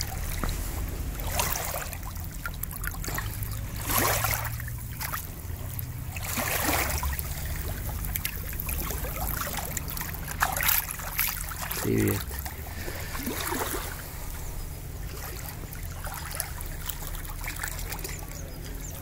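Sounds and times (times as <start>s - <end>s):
small waves washing onto shore: 0.0s - 19.0s.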